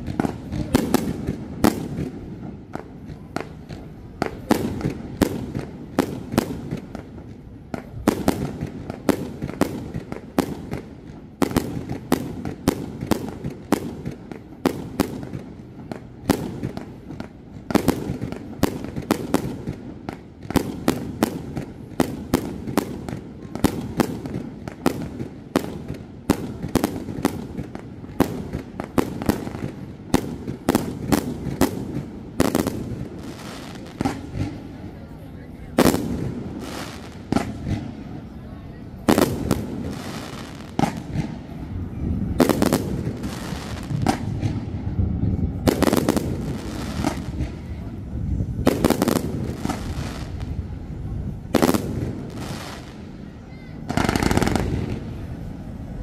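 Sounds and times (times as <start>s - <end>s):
firework bangs and crackles: 0.0s - 56.0s.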